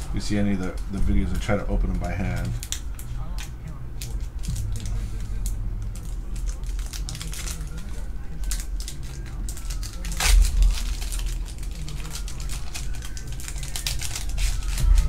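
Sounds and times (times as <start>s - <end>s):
foil wrapper crinkling: 0.1s - 15.0s.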